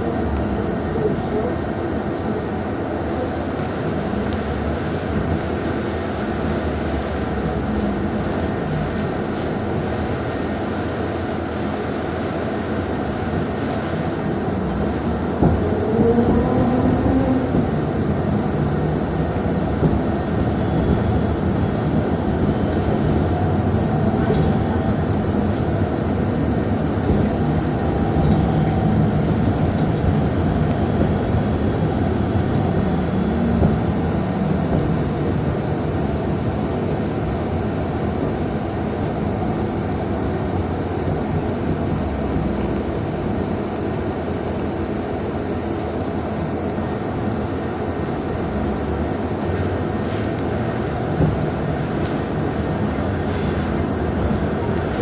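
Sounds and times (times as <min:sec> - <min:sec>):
bus rumble: 0:00.0 - 0:55.0.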